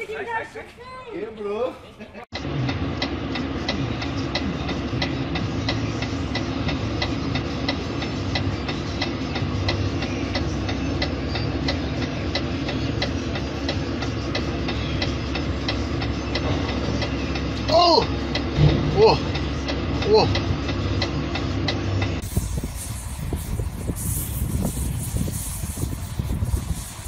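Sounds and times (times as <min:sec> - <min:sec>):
engine idling with ticking: 0:02.3 - 0:27.0.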